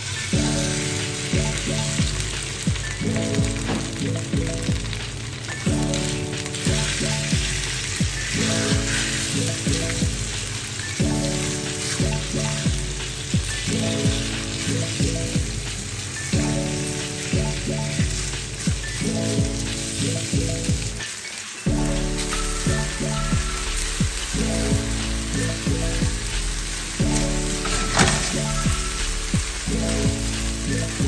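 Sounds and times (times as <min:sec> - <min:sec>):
background music: 0:00.0 - 0:31.0
meat sizzling in a frying pan: 0:00.0 - 0:31.0.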